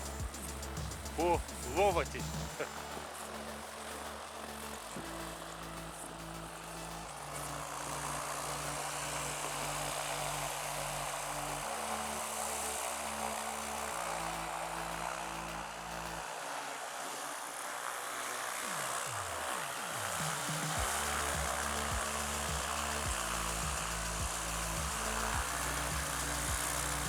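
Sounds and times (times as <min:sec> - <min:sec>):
background music with bass line: 0:00.0 - 0:16.3, 0:20.1 - 0:27.0.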